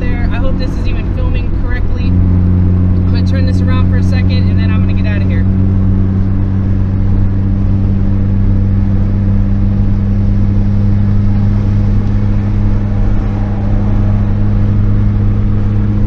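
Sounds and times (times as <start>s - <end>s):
car engine and road noise drone: 0.0s - 16.0s.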